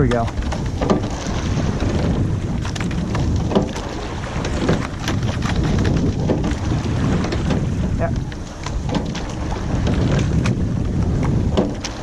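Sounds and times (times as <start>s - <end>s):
rushing water: 0.0s - 12.0s
wind on microphone: 0.0s - 12.0s
sharp knock of oar stroke: 0.1s - 10.6s, 11.2s - 12.0s.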